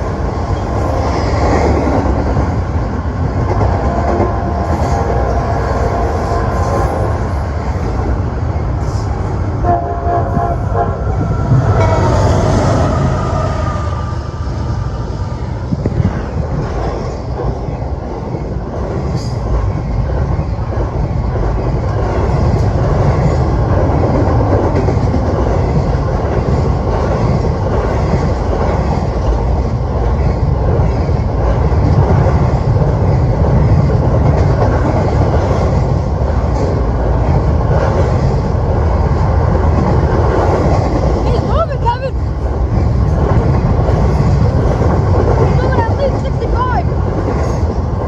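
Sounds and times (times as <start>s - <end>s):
freight train rumbling past: 0.0s - 48.0s
train cars rattling: 0.0s - 48.0s.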